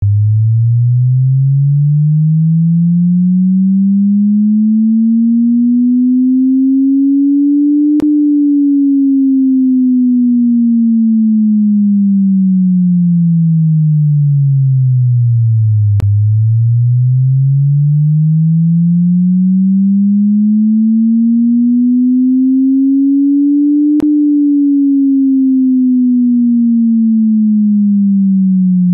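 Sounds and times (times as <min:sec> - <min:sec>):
sweeping sine test tone: 0:00.0 - 0:28.9.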